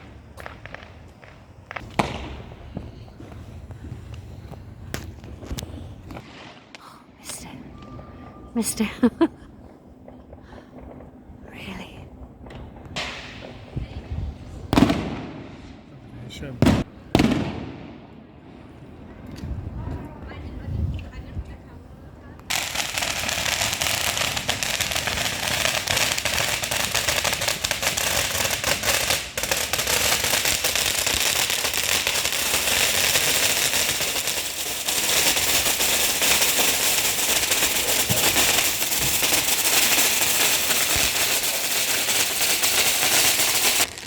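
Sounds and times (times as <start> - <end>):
fireworks crackling: 0.0 - 18.0, 22.5 - 44.0.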